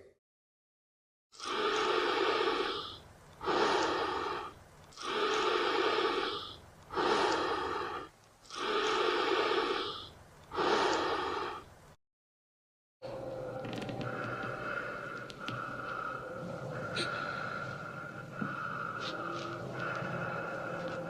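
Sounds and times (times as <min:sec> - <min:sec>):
heavy slow breathing: 0:01.4 - 0:11.7, 0:13.0 - 0:21.0.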